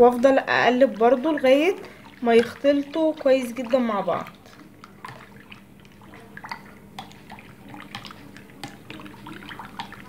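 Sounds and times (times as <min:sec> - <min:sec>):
small liquid splashes: 0:00.0 - 0:10.0.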